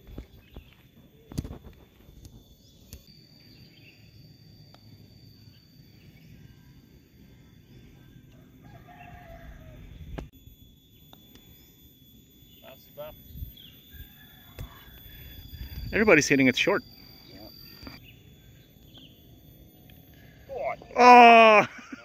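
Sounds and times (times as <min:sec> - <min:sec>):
faint high-pitched buzz: 0:00.0 - 0:22.0.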